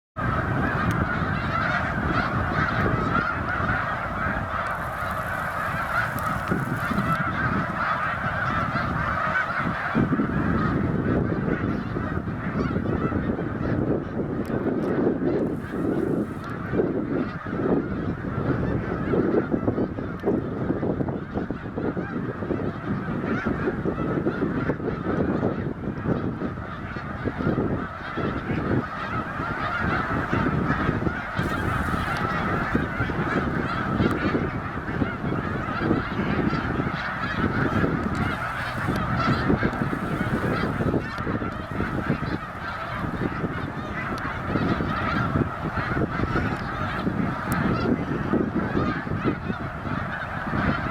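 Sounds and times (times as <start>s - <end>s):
geese honking and chattering: 0.2s - 50.9s.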